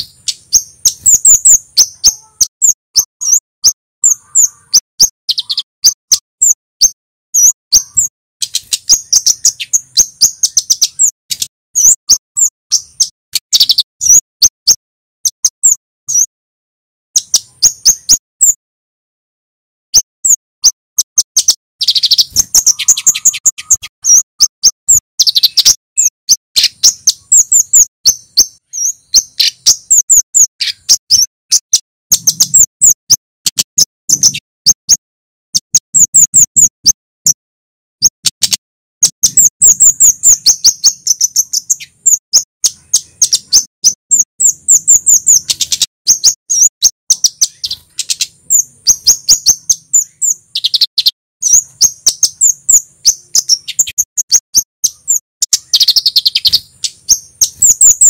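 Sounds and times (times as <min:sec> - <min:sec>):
bird calling high chip notes: 0:00.0 - 0:16.3, 0:17.2 - 0:18.6, 0:19.9 - 0:37.4, 0:38.0 - 0:58.0.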